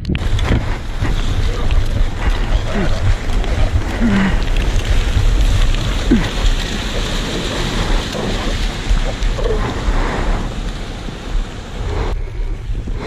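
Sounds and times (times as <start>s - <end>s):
wind buffeting microphone: 0.0s - 13.0s
surf washing up beach: 0.2s - 13.0s.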